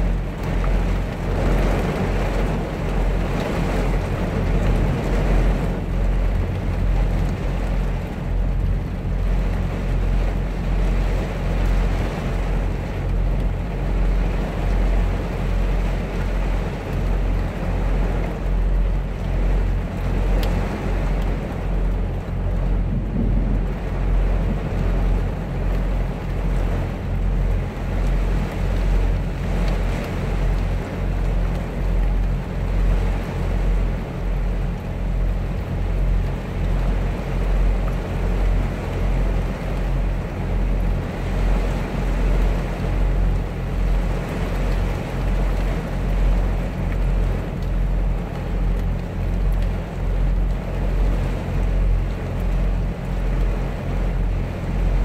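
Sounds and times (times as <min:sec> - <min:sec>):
heavy rain on truck roof: 0:00.0 - 0:55.0.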